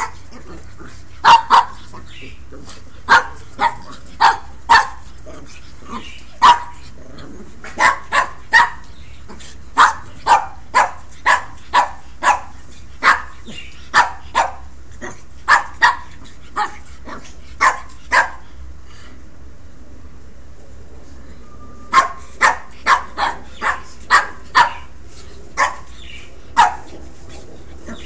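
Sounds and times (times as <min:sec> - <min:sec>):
puppies barking: 0:00.0 - 0:18.6, 0:21.9 - 0:28.0.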